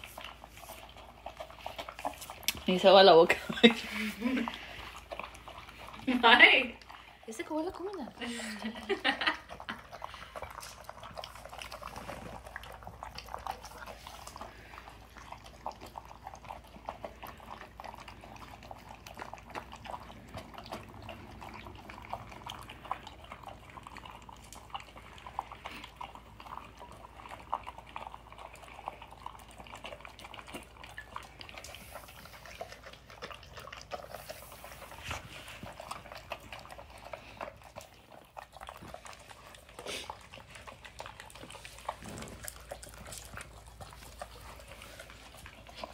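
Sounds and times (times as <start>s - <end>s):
dogs crunching dry food: 0.0s - 45.9s.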